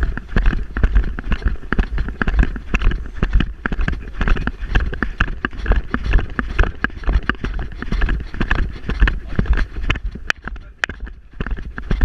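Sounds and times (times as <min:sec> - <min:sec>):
camera jolting with dog strides: 0:00.0 - 0:12.0
deep handling noise rumble: 0:00.0 - 0:12.0.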